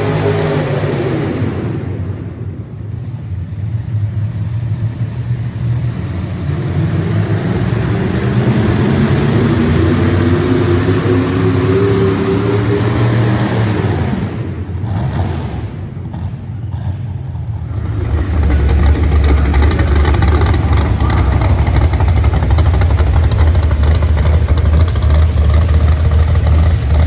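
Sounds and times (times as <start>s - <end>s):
truck engine running hard: 0.0s - 27.0s.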